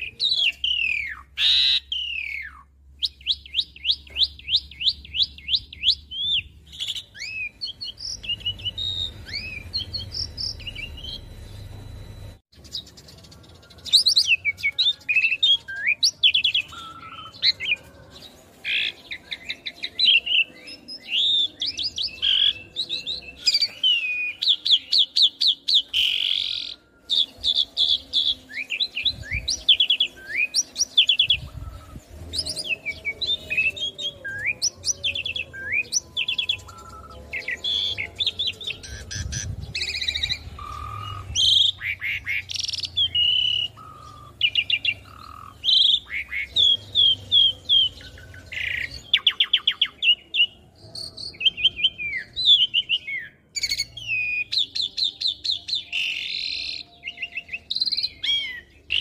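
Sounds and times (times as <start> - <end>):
starling singing: 0.0 - 11.7, 12.3 - 59.0.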